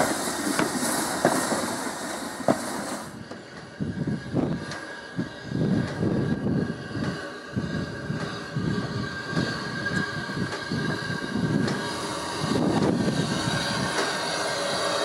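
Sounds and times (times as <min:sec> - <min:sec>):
faint steady squeal: 0:00.0 - 0:15.0
locomotive clanks: 0:00.0 - 0:15.0
steam locomotive exhaust beating: 0:00.0 - 0:15.0.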